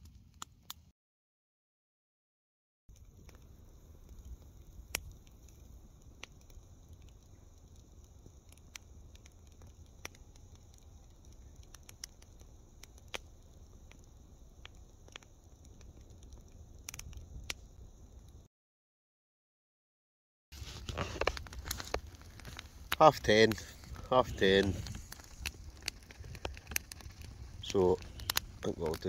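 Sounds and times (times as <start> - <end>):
campfire crackling: 0.0 - 0.9, 2.9 - 18.5, 20.6 - 29.0.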